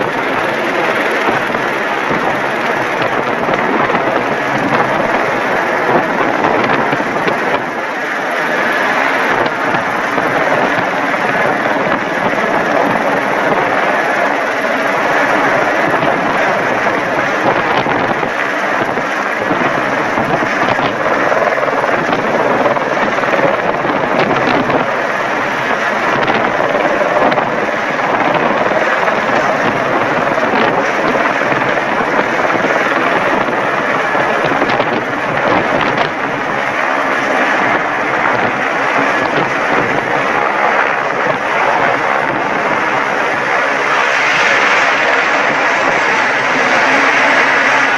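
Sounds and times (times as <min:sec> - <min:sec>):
helicopter rotor and engine: 0:00.0 - 0:47.9.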